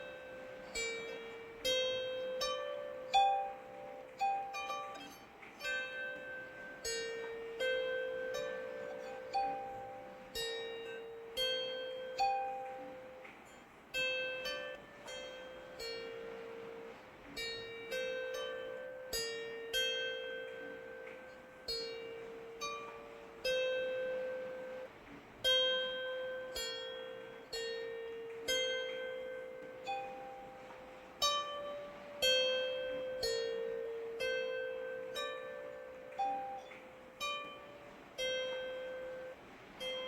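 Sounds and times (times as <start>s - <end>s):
plucked string melody: 0.0s - 40.0s.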